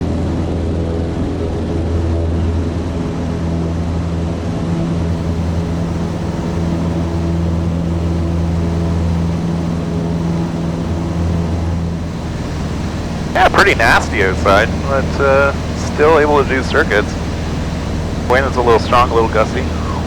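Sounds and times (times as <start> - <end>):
light aircraft engine and propeller: 0.0 - 20.0.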